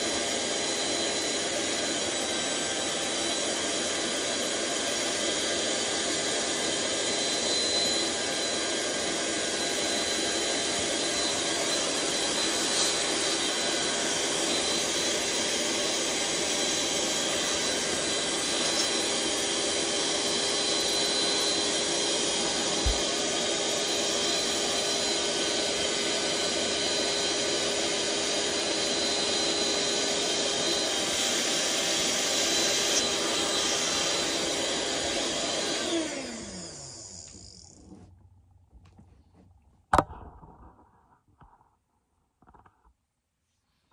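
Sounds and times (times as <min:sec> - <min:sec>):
electric air pump running: 0:00.0 - 0:38.1.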